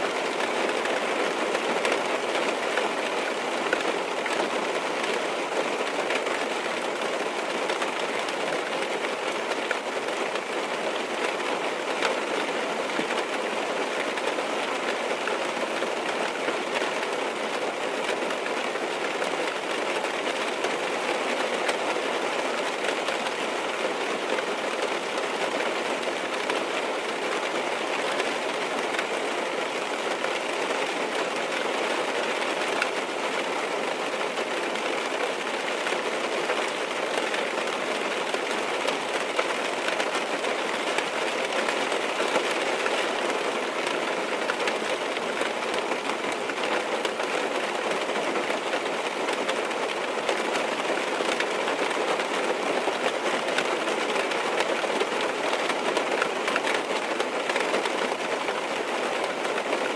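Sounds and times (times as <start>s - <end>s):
rain on car roof from inside: 0.0s - 59.9s.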